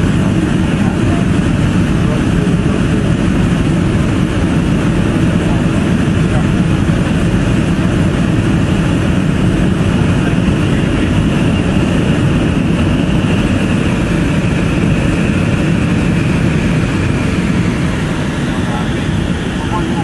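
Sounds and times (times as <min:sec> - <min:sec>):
jet engine cabin roar: 0:00.0 - 0:20.0
rushing airflow: 0:00.0 - 0:20.0.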